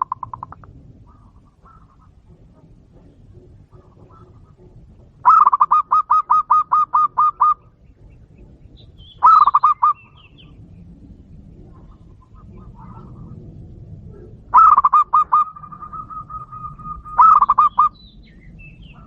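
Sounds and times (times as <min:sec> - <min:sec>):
dove calling: 0:00.0 - 0:19.0.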